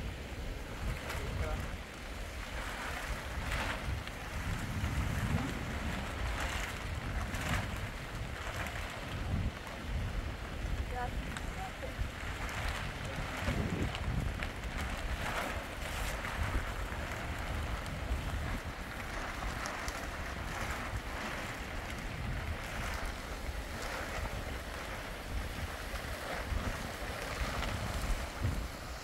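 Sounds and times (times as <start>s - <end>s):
storm wind buffeting microphone: 0.0s - 29.0s.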